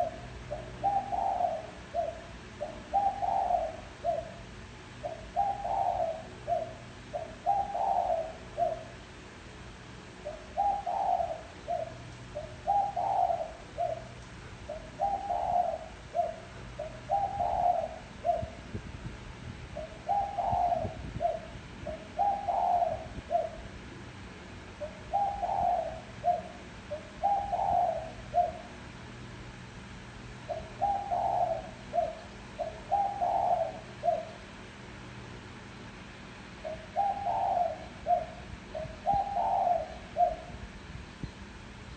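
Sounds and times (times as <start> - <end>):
dove cooing: 0.0 - 9.1, 10.2 - 18.8, 19.7 - 23.8, 24.7 - 29.0, 30.3 - 34.6, 36.4 - 40.7.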